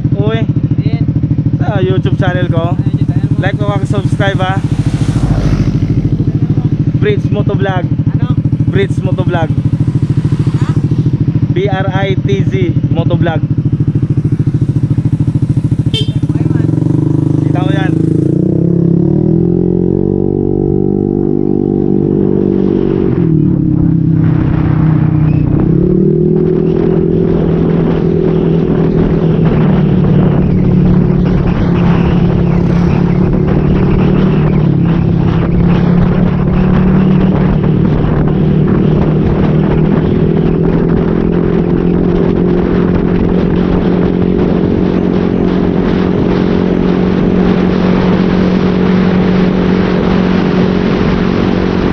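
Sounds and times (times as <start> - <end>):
motorcycle engine: 0.0 - 51.9.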